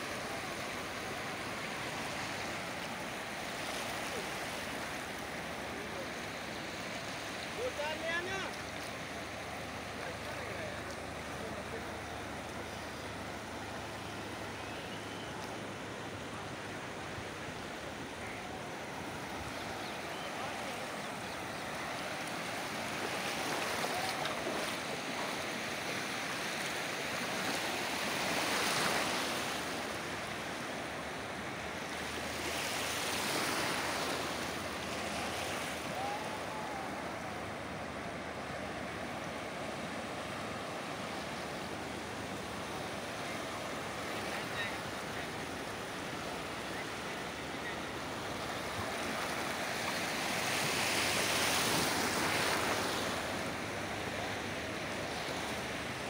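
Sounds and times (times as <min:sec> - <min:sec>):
surf waves breaking: 0:00.0 - 0:56.0.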